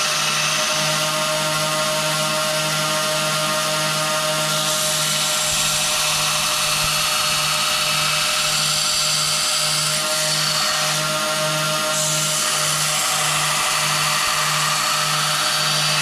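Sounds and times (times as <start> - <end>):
power tool motor running: 0.0 - 16.0.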